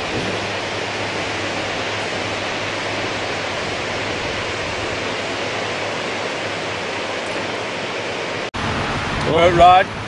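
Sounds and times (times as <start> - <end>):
water flowing: 0.0 - 10.0.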